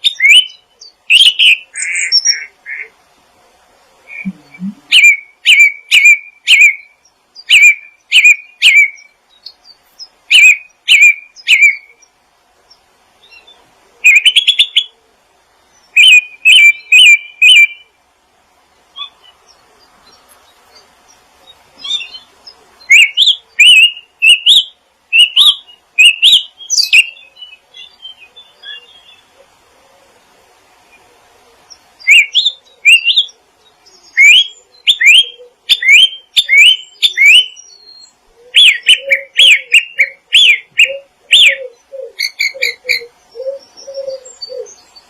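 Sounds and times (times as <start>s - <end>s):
songbird chirping: 0.0s - 45.0s.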